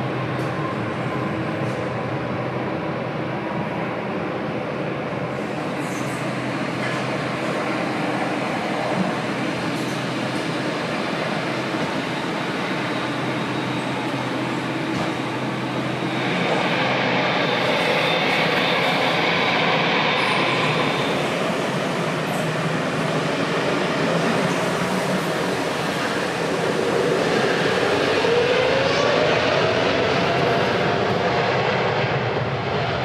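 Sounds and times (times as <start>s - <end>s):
jet engine rushing: 6.3s - 33.0s.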